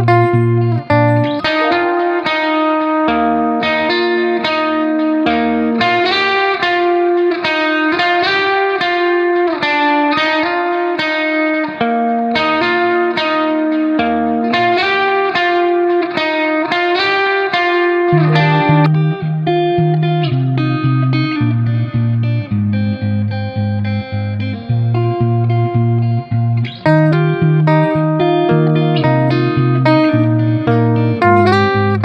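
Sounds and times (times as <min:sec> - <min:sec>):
plucked guitar melody: 0:00.0 - 0:32.0.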